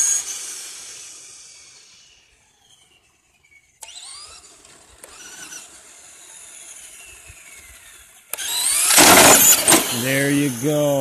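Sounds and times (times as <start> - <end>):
rc truck electric motor whining: 0.0 - 11.0.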